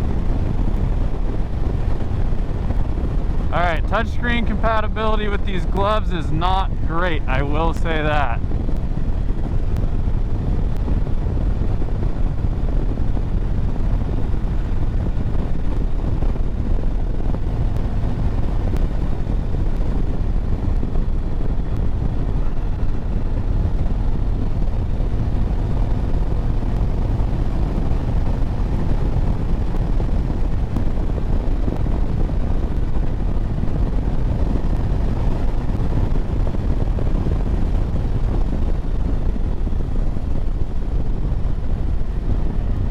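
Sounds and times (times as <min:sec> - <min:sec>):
motorcycle engine cruising: 0:00.0 - 0:42.9
road and wind noise: 0:00.0 - 0:42.9.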